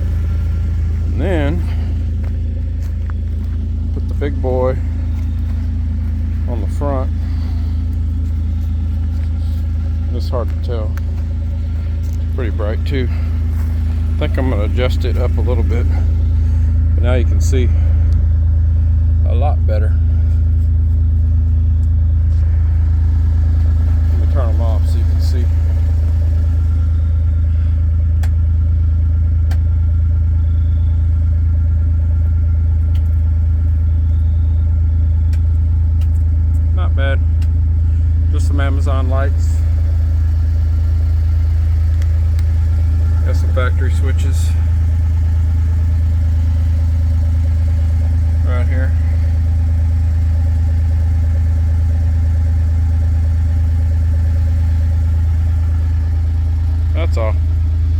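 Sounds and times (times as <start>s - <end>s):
utility vehicle engine idling: 0.0s - 57.9s.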